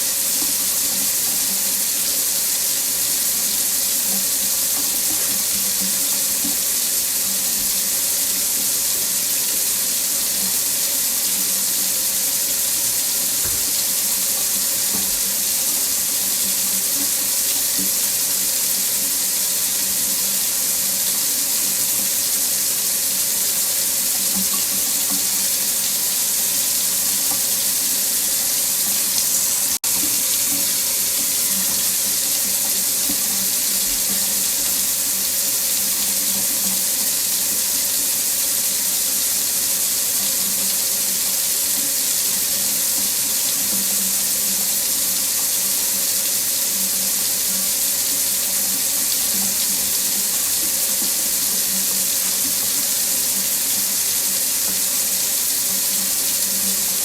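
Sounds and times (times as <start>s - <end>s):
water running from faucet into sink: 0.0s - 57.0s.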